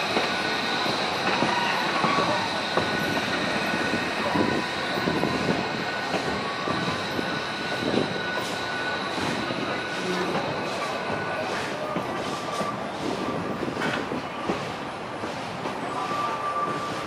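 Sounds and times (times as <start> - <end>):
train cars rumbling and rattling: 0.0 - 17.0.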